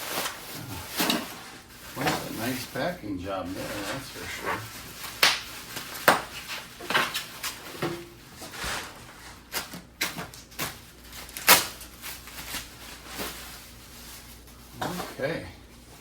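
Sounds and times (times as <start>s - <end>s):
packing material crinkling: 0.0s - 16.0s.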